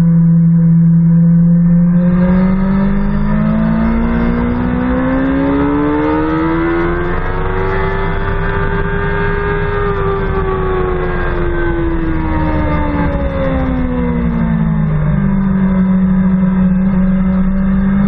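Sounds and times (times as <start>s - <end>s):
motorcycle engine revving hard: 1.6s - 18.0s.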